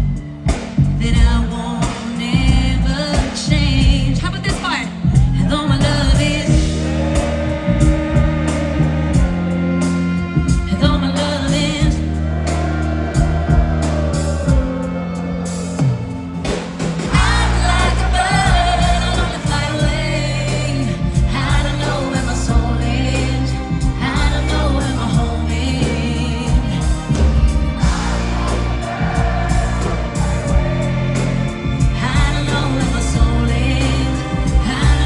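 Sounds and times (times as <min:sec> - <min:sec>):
bass line: 0:00.0 - 0:35.0
live pop band playing: 0:00.0 - 0:35.0
sung vocals: 0:00.0 - 0:35.0.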